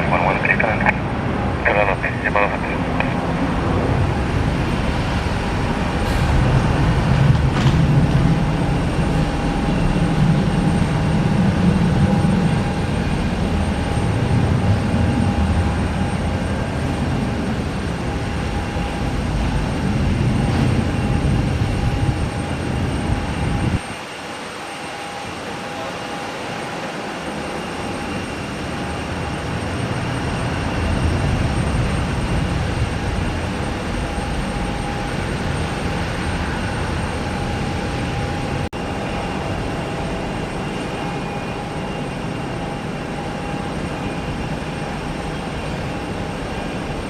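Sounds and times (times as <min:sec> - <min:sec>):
jet engines rumbling: 0:00.0 - 0:47.0
thin steady whine: 0:00.0 - 0:47.0.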